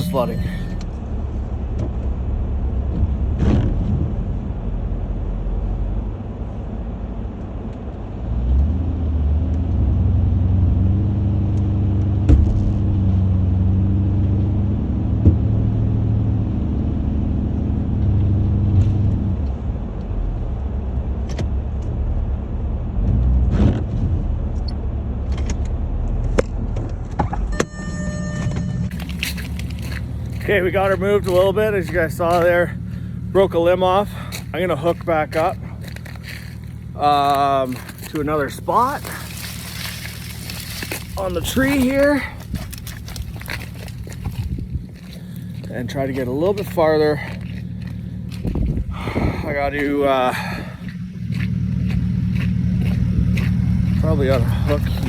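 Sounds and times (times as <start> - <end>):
car engine running under load: 0.0 - 55.0.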